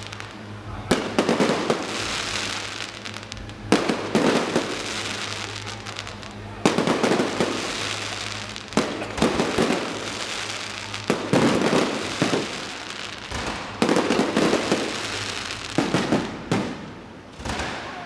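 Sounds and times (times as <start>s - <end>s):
fireworks bangs with crackle: 0.0s - 18.0s.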